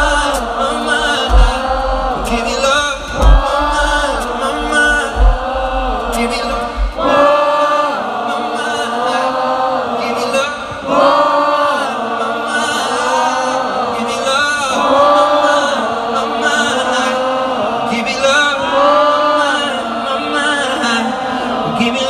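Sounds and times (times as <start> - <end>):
crowd singing in harmony: 0.0 - 22.0.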